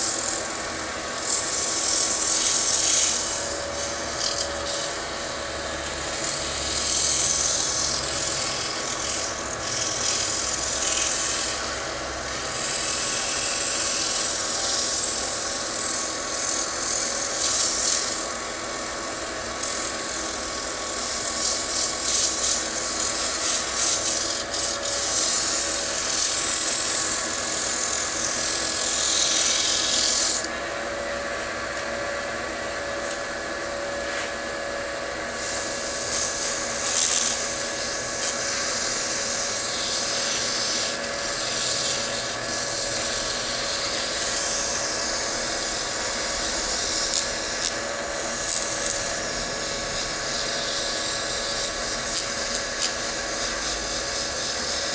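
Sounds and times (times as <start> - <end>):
sandpaper hissing on wood: 0.0 - 30.5, 35.3 - 54.9
wood lathe humming: 0.0 - 54.9.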